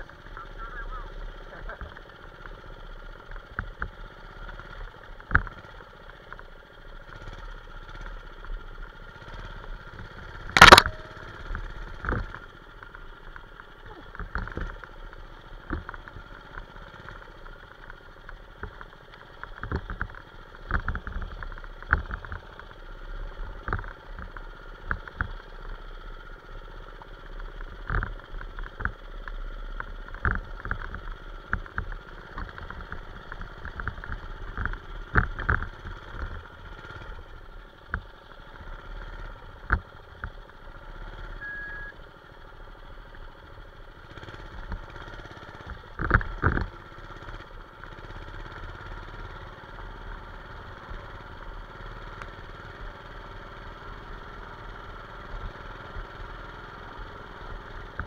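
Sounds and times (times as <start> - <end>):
minibike engine running: 0.0 - 58.0.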